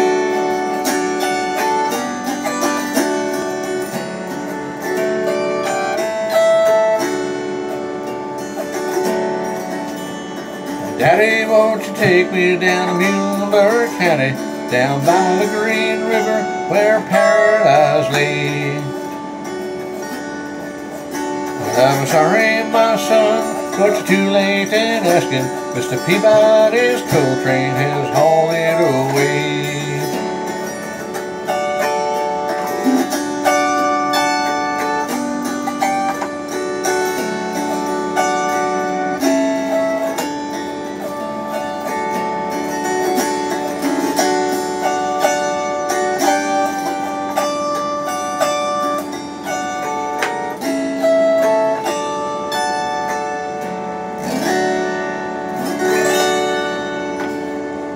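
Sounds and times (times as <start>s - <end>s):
autoharp strummed: 0.0s - 57.9s.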